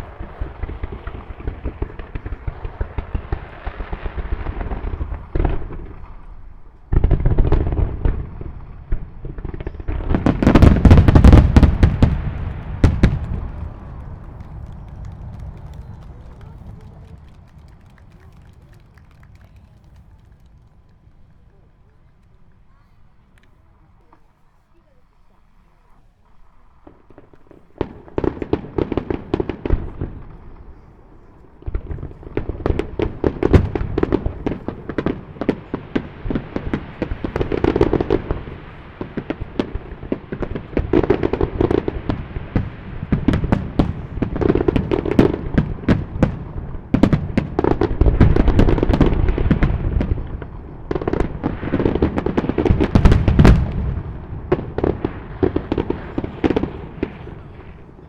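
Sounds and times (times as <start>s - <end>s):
fireworks booming and crackling: 0.0s - 24.3s, 26.3s - 58.0s.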